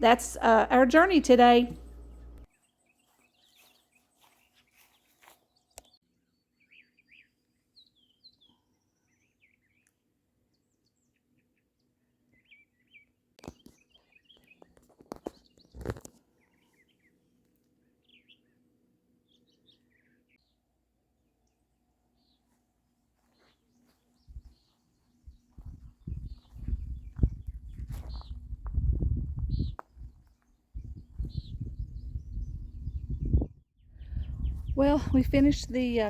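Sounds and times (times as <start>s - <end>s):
faint birdsong chirps: 1.7s - 36.0s.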